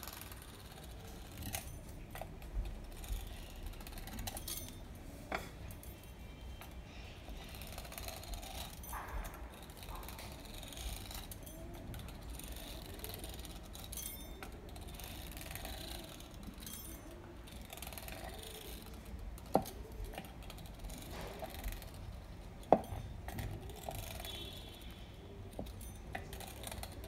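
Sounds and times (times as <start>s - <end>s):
cutter wheel scraping dough: 0.0s - 5.6s, 6.3s - 27.0s.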